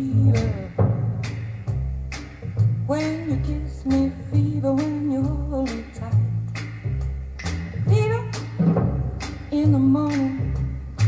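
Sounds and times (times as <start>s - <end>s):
deep plucked bass notes: 0.0s - 11.0s.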